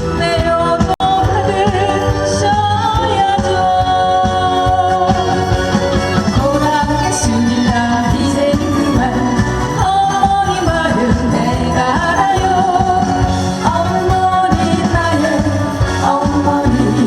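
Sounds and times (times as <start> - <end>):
backing track with steady beat: 0.0 - 17.0
person singing: 0.0 - 17.0.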